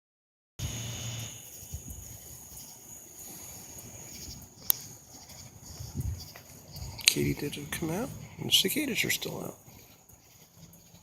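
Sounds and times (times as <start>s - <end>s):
insects buzzing at night: 0.6s - 11.0s.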